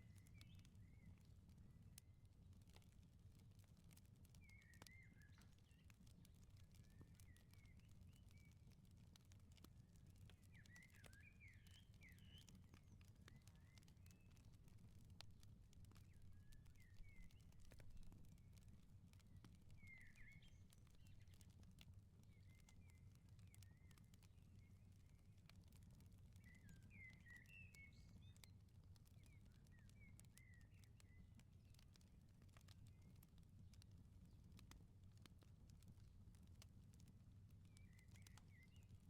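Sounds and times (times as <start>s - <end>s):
small birds chirping: 0.0s - 1.4s, 4.0s - 34.7s, 37.6s - 39.0s
wood fire crackling: 0.1s - 39.0s.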